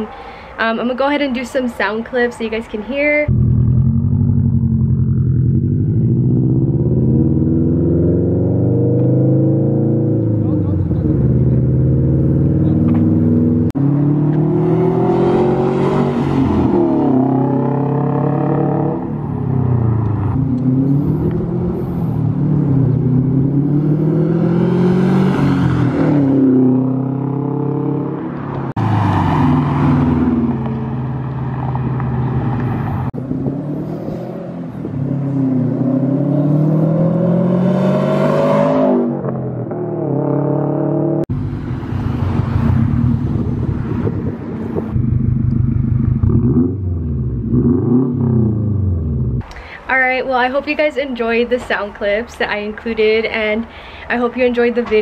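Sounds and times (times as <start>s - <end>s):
car engine accelerating hard: 3.3s - 49.4s.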